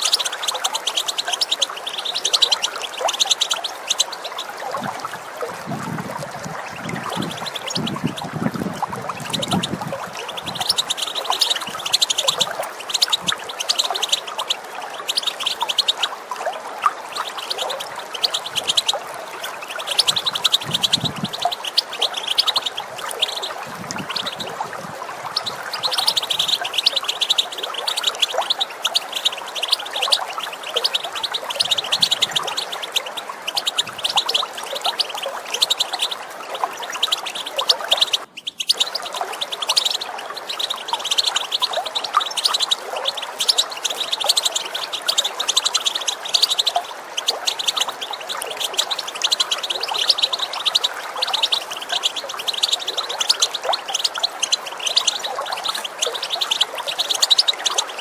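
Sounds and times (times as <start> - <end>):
finch chattering calls: 0.0 - 4.5, 6.6 - 16.2, 17.1 - 58.0
running water: 0.0 - 58.0.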